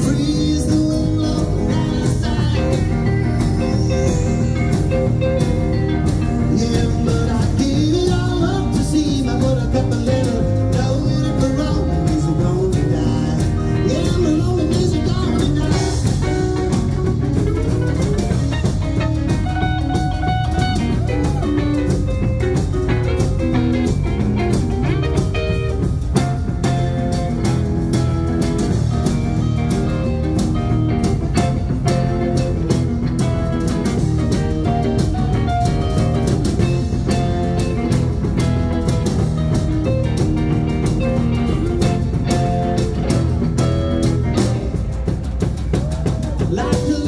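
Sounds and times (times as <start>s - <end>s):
drum kit: 0.0s - 47.0s
electric bass: 0.0s - 47.0s
electric guitar lines: 0.0s - 47.0s
rhythm guitar: 0.0s - 47.0s.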